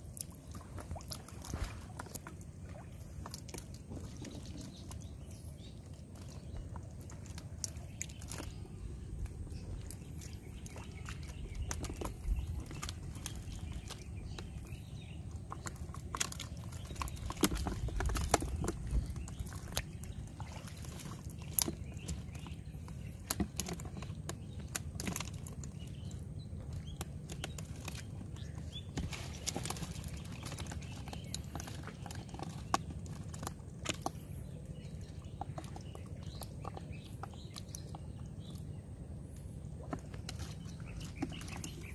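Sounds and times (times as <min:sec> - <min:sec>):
steady low rumble: 0:00.0 - 0:41.9.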